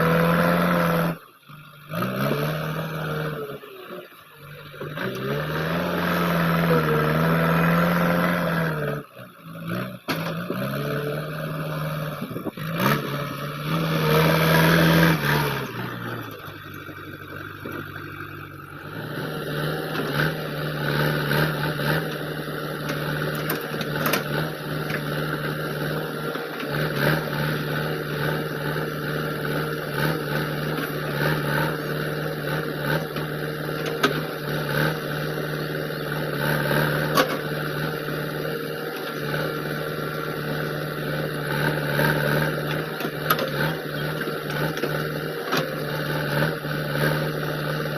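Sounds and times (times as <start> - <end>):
diesel engine revving under load: 0.0 - 47.9.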